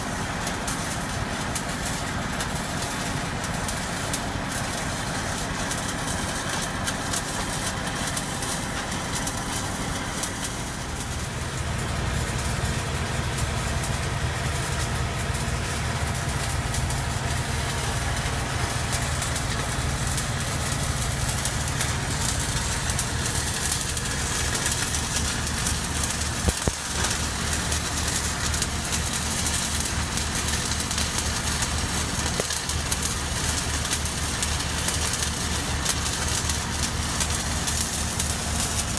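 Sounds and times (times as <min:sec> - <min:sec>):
crackling hiss of stick welding: 0:00.0 - 0:38.9
welding machine engine drone: 0:00.0 - 0:38.9.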